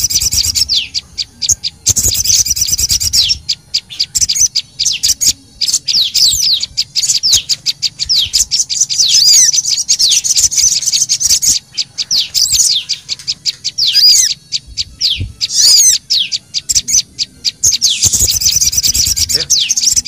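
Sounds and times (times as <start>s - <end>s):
rapid high bird chirps: 0.0s - 20.0s.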